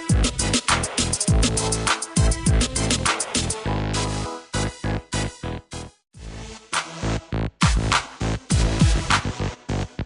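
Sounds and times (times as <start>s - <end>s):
electronic music with drum-machine beat: 0.0s - 10.0s.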